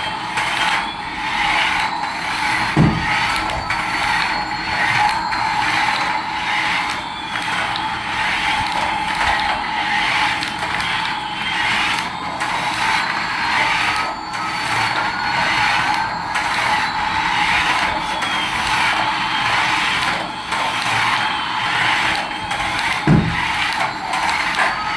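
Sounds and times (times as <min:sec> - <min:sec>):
toy electric motor whirring: 0:00.0 - 0:24.9.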